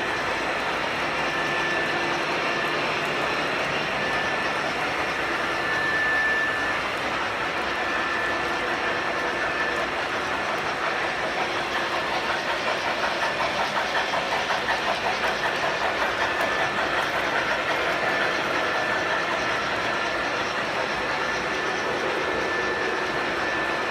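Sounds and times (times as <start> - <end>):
model train running on track: 0.0 - 23.9
rhythmic clicking of wheels: 0.0 - 23.9.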